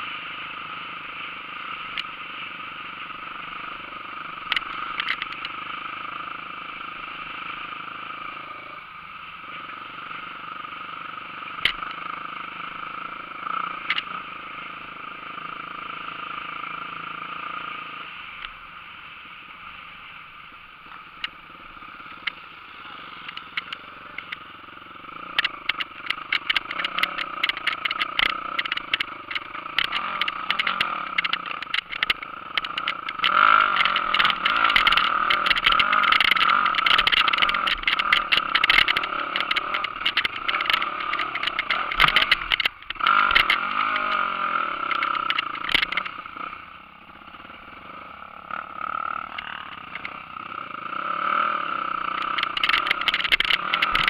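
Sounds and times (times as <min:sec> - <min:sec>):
knocks and rattles of motorcycle: 0:00.0 - 0:54.0
motorcycle engine running: 0:00.0 - 0:54.0.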